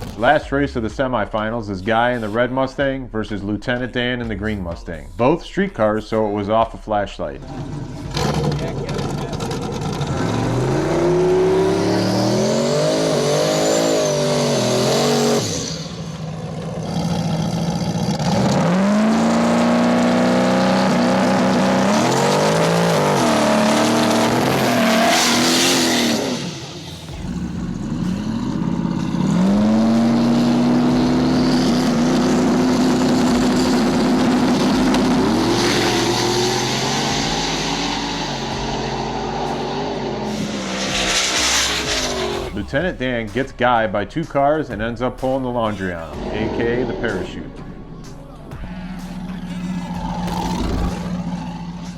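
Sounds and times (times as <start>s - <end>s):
drag car engines accelerating hard: 7.4s - 43.0s, 45.7s - 51.9s.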